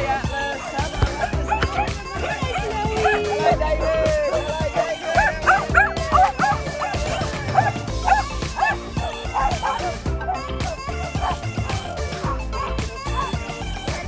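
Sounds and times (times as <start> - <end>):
background music: 0.0 - 14.0
small dogs yipping and barking: 0.6 - 3.6, 4.8 - 14.0.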